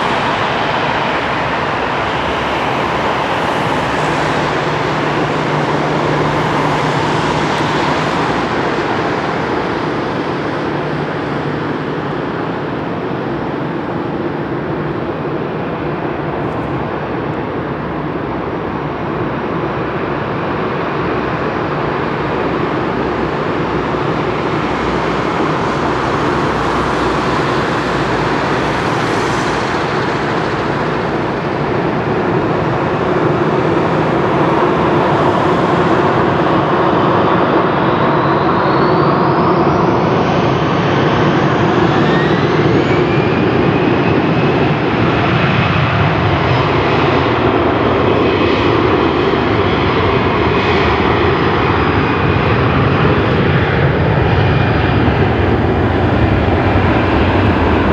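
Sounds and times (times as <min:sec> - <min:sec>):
jet engine whine rising: 0:00.0 - 0:57.9
jet engines running: 0:00.0 - 0:57.9.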